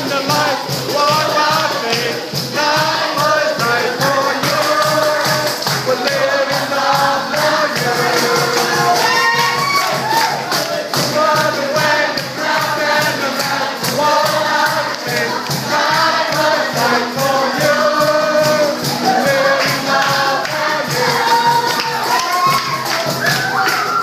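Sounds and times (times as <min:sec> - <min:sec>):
group singing worship song: 0:00.0 - 0:24.0
music with percussive beat: 0:00.0 - 0:24.0.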